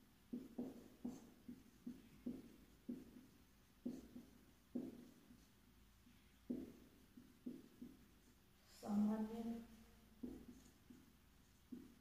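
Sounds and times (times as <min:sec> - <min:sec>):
marker pen writing on whiteboard: 0:00.2 - 0:08.5, 0:10.2 - 0:12.0.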